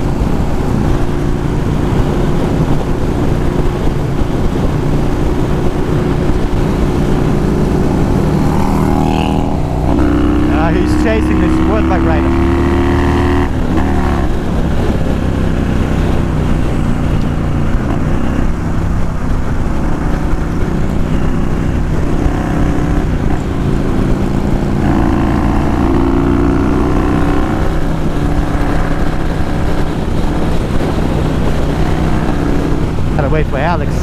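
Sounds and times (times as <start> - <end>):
motorcycle engine cruising: 0.0 - 34.0
wind rush on microphone: 0.0 - 34.0.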